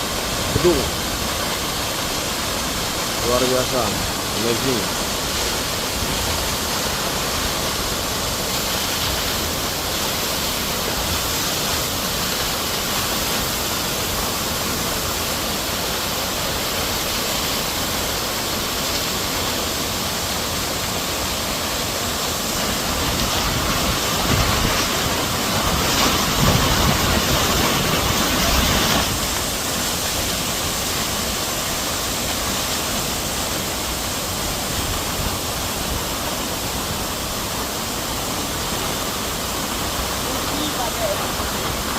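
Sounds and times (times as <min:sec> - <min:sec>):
waterfall pouring: 0:00.0 - 0:41.9.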